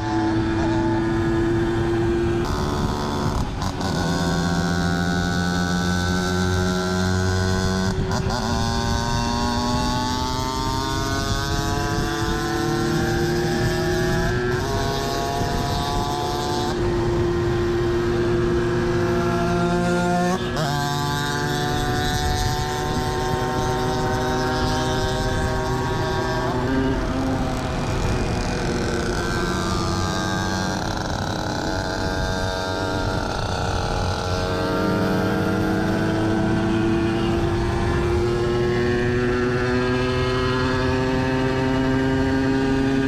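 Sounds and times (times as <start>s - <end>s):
two-stroke moped engine revving: 0.0s - 43.0s.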